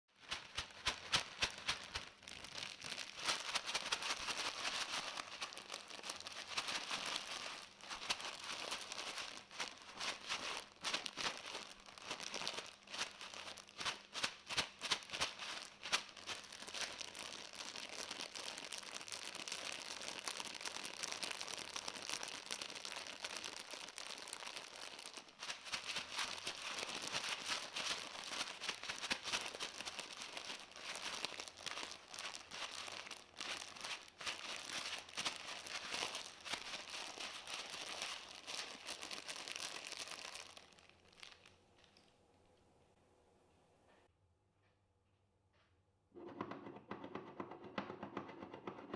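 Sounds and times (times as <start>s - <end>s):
crinkling rustle with clicks: 0.1s - 42.2s.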